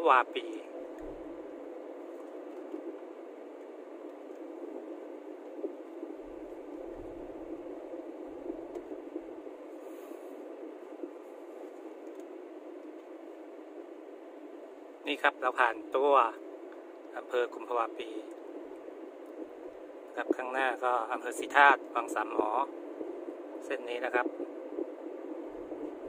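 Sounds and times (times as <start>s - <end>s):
car cabin road and engine noise: 0.0s - 26.0s
low rumbles: 0.0s - 26.0s.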